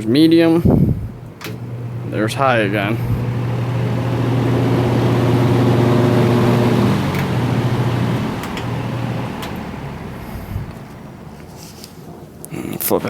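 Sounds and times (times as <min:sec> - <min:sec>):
low electric motor hum: 0:00.0 - 0:12.4
fan air rushing: 0:00.0 - 0:13.0.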